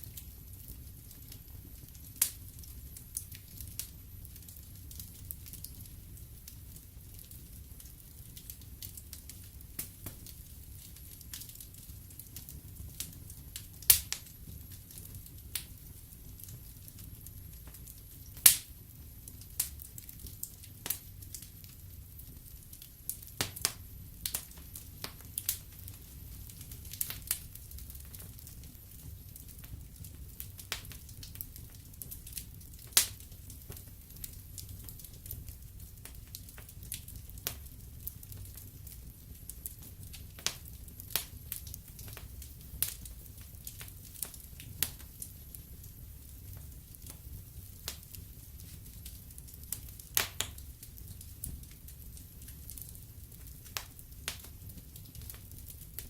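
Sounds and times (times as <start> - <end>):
fire crackling and popping: 0.0 - 56.0
fire low rumble: 0.0 - 56.0.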